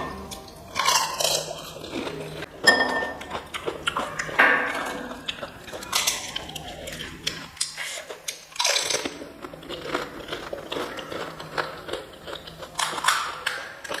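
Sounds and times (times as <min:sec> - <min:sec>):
crunchy food chewing: 0:00.2 - 0:02.5, 0:03.1 - 0:14.0.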